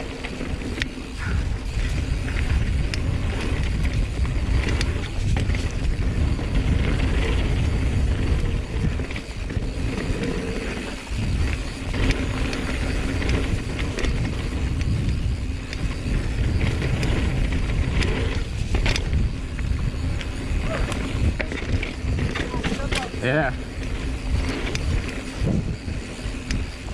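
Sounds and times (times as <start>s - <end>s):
bike clicking and rattling: 0.0s - 26.9s
tyre noise on dirt: 0.0s - 26.9s
wind rushing: 1.2s - 26.9s.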